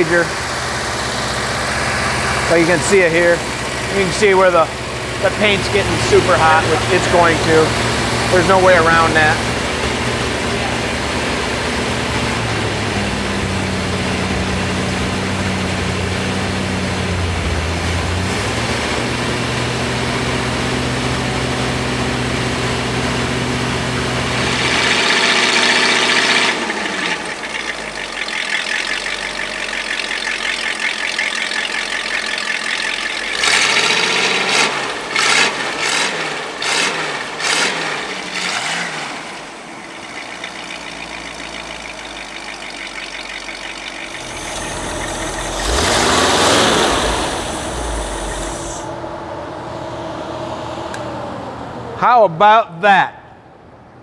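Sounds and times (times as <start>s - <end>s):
car engine fast idling: 0.0s - 49.1s.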